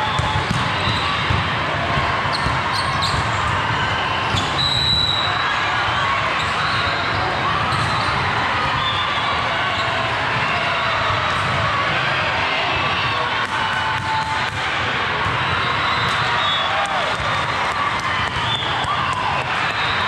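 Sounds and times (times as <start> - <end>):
murmur of voices in a hall: 0.0 - 20.0.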